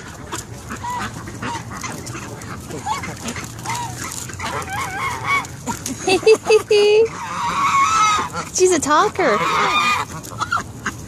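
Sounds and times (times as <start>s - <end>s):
geese and ducks calling: 0.0s - 11.0s.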